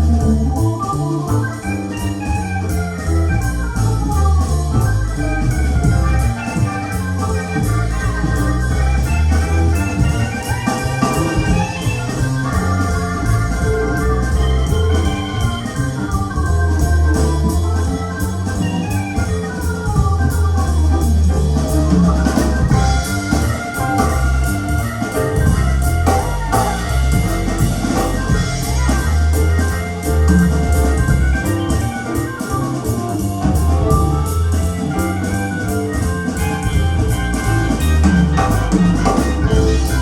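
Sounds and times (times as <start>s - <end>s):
instrumental music with strong bass: 0.0s - 40.0s.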